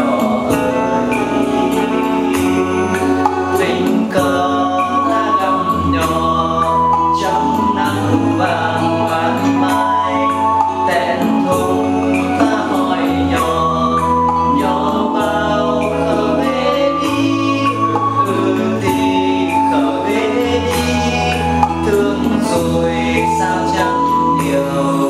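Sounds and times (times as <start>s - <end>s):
song with singing: 0.0s - 25.0s.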